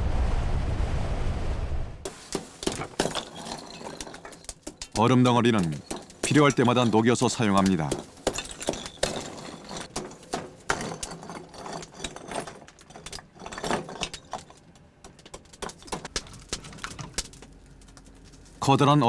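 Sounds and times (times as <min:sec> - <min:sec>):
ice chunks clinking: 0:02.1 - 0:18.8.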